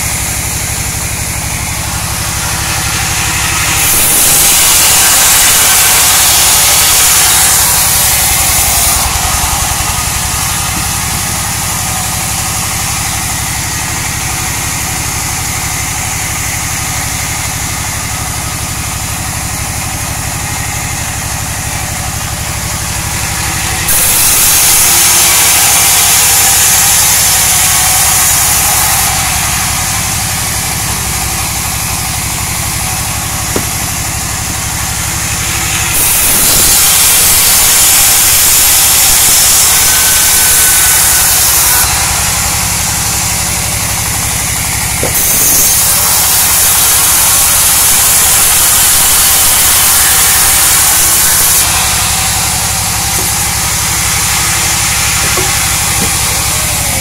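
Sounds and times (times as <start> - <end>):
band sawmill droning: 0.0 - 57.0
saw blade hissing through log: 0.0 - 57.0.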